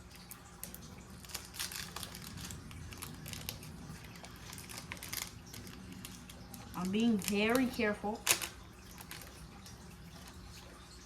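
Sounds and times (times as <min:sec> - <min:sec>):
plastic crinkling: 0:00.0 - 0:11.0.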